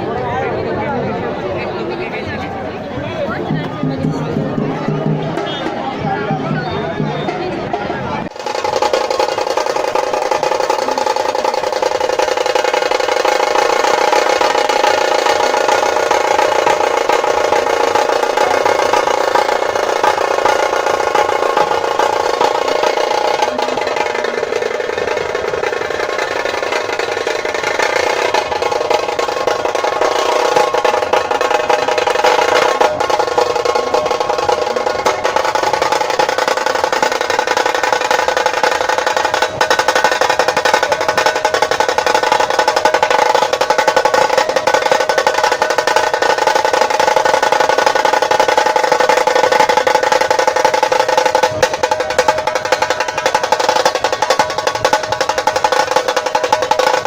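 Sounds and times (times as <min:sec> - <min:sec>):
dhol drums playing: 0:03.0 - 0:57.0.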